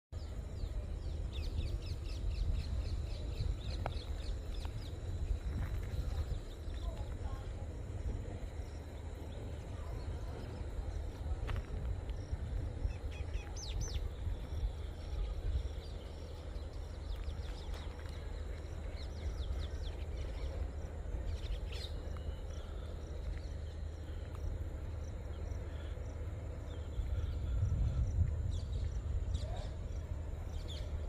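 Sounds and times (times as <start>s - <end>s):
low outdoor background rumble: 0.1s - 31.0s.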